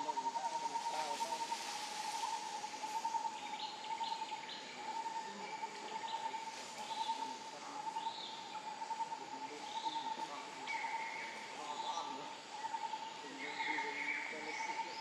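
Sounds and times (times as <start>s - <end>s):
bird chirps: 2.2s - 15.0s.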